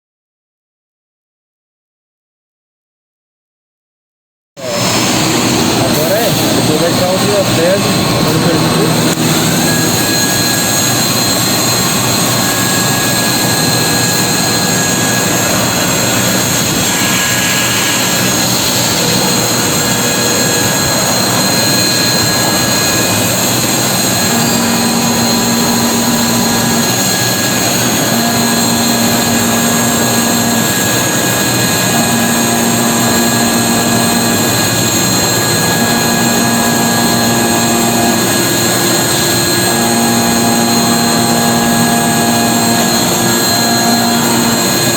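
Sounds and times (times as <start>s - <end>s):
low hum: 4.6s - 44.9s
machine hiss with high whine: 4.6s - 44.9s.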